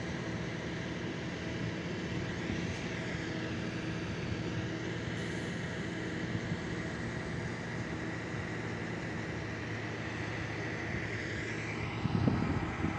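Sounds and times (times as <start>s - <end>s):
diesel machinery engine drone: 0.0s - 12.9s.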